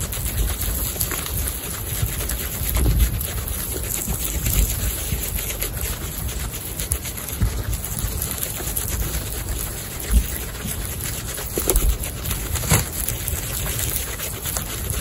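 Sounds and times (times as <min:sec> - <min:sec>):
guinea pigs munching grass: 0:00.0 - 0:15.0.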